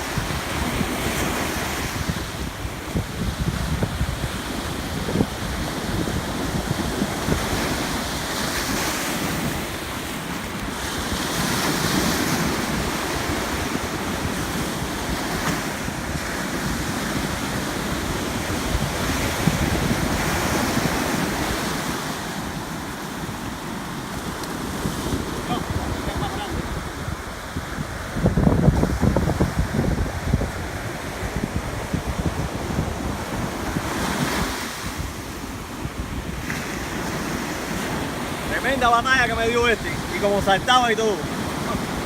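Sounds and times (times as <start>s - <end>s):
ocean surf washing: 0.0s - 42.0s
wind buffeting microphone: 0.0s - 42.0s.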